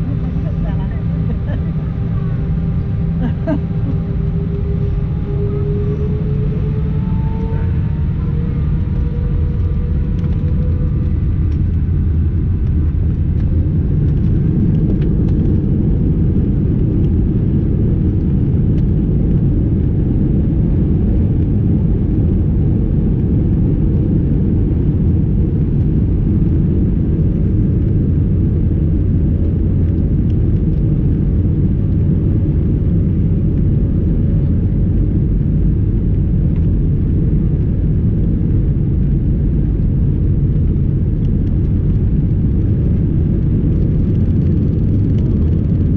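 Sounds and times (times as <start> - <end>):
faint engine whine: 0.0 - 45.9
jet engine rumble in cabin: 0.0 - 45.9.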